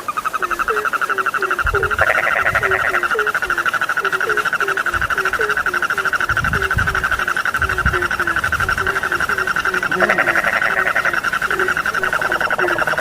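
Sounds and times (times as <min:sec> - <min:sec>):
frogs croaking: 0:00.0 - 0:13.0
frogs trilling: 0:00.0 - 0:13.0
low rumbles: 0:01.6 - 0:13.0.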